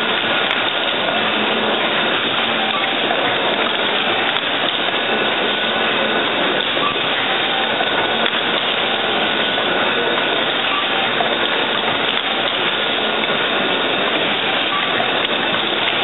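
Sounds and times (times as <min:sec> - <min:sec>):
machine running steadily: 0:00.0 - 0:16.0.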